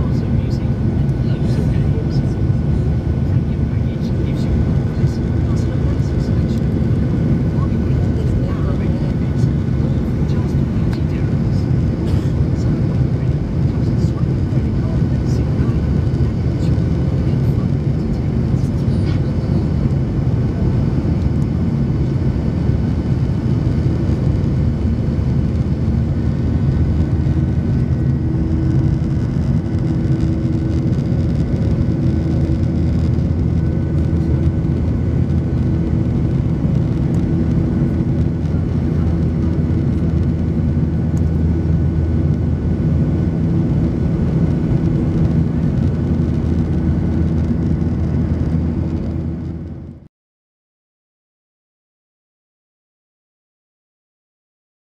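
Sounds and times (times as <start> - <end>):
jet engines and airflow roar: 0.0 - 50.1.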